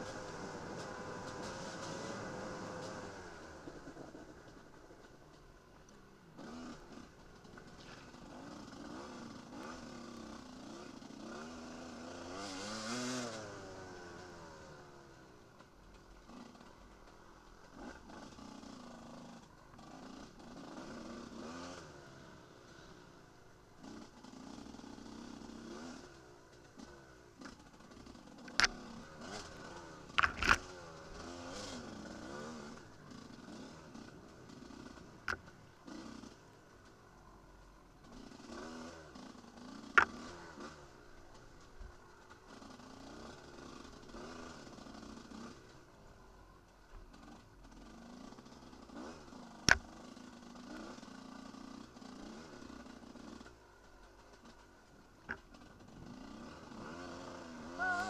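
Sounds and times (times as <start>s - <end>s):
dirt bike engine revving: 0.0s - 4.8s, 6.2s - 15.1s, 16.2s - 23.0s, 23.7s - 37.4s, 38.0s - 46.0s, 47.2s - 58.0s.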